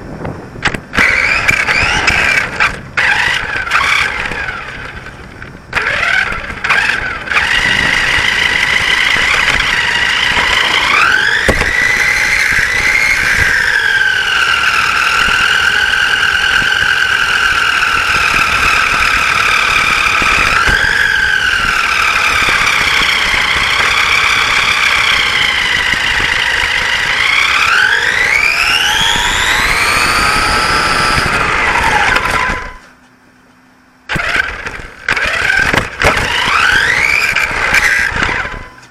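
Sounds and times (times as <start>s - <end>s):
rc car motor whining: 0.6s - 32.9s, 34.1s - 38.9s.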